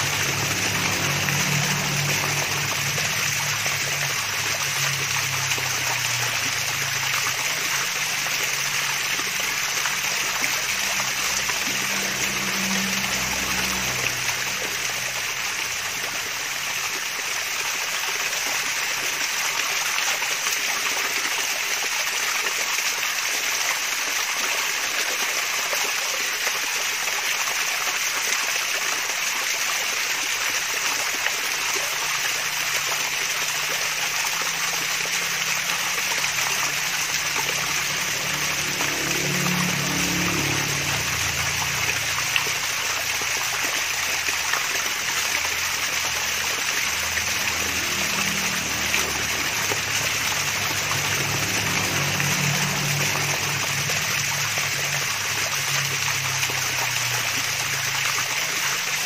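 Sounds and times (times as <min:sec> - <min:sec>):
small waterfall splashing: 0:00.0 - 0:59.0.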